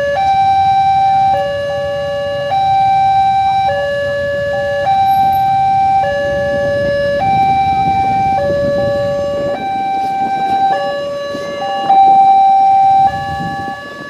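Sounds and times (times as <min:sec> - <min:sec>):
idling motorbikes and cars: 0:00.0 - 0:14.0
level crossing warning alarm: 0:00.0 - 0:14.0.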